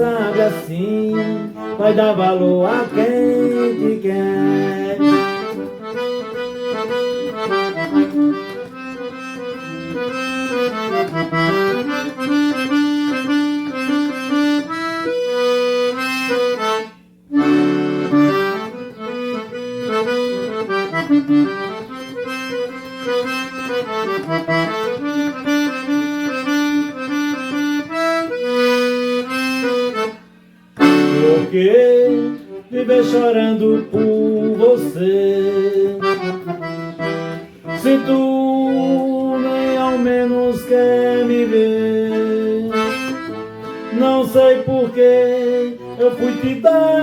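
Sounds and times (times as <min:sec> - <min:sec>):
accordion melody: 0:00.0 - 0:47.0.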